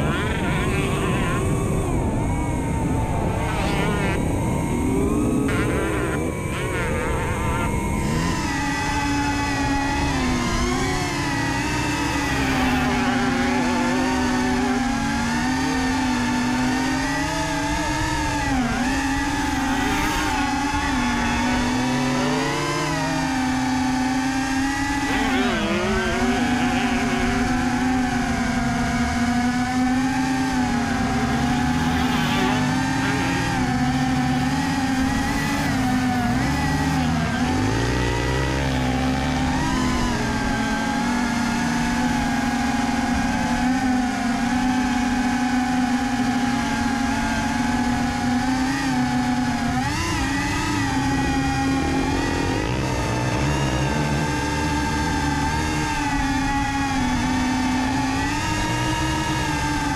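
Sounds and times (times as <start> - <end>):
dirt bike engines revving: 0.0 - 59.9
drone propellers humming: 0.0 - 59.9.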